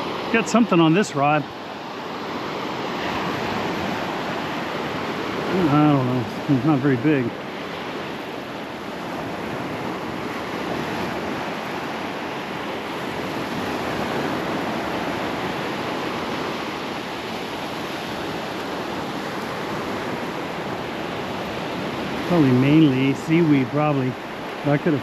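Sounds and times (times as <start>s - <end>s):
surf breaking on beach: 0.0s - 25.0s
wind buffeting microphone: 1.8s - 25.0s.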